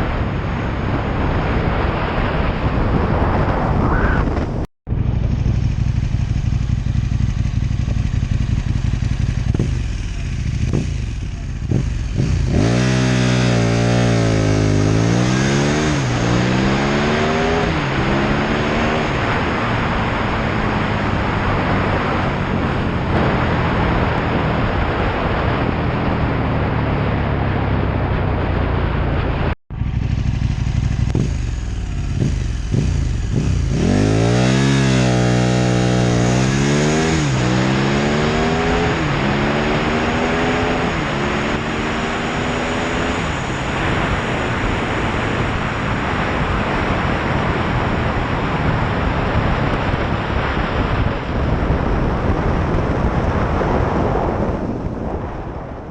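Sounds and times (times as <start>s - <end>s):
motorcycle engine revving: 0.0s - 55.9s
wind rushing over microphone: 0.0s - 55.9s.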